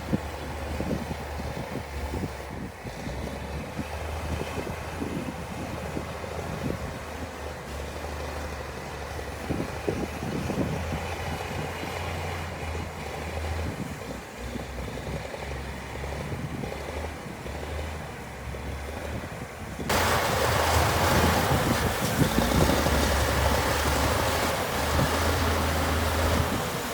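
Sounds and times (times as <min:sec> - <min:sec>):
heavy machinery diesel engine: 0:00.0 - 0:26.9.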